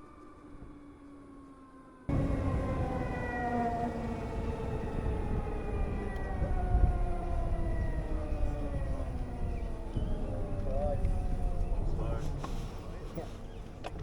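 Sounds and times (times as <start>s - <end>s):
electric motorcycle motor whine: 2.1s - 14.0s
wind rumble: 2.1s - 14.0s.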